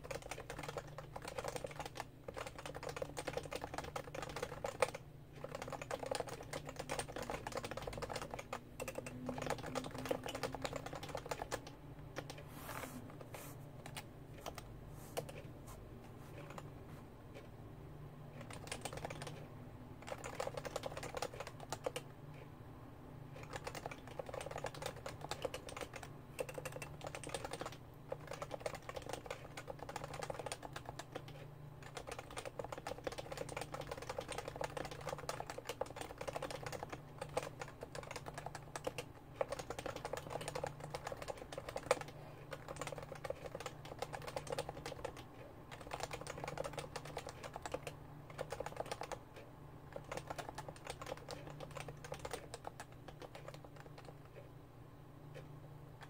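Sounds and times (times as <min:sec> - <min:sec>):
fast keyboard typing: 0:00.0 - 0:12.5, 0:13.8 - 0:15.5, 0:16.3 - 0:16.7, 0:18.3 - 0:22.1, 0:23.3 - 0:54.5.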